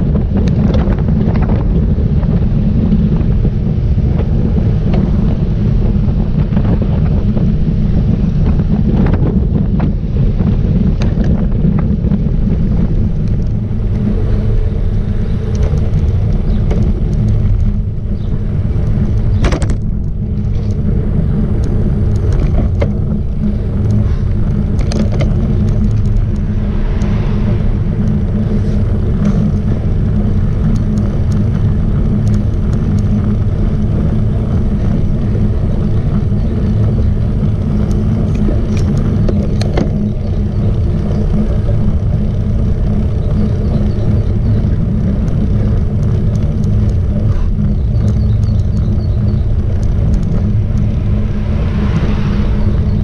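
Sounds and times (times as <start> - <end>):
wind buffeting microphone: 0.0 - 53.0
small clicks and knocks from bike: 0.1 - 2.4, 8.4 - 27.1, 28.0 - 52.0.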